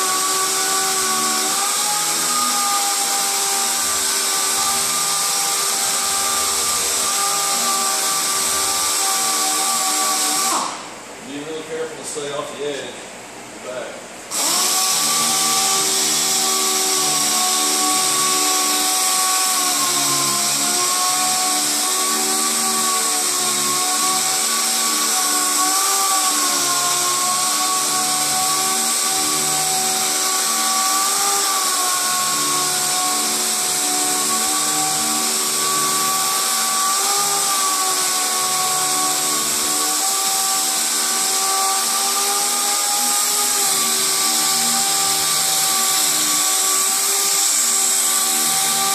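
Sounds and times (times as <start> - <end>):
orbital sander whining: 0.0 - 10.9, 14.3 - 48.9.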